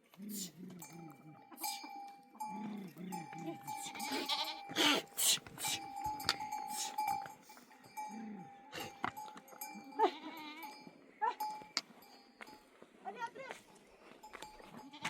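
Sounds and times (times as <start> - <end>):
goats and sheep bleating: 0.0 - 13.6, 14.2 - 15.0
animal bells clinking: 0.0 - 15.0.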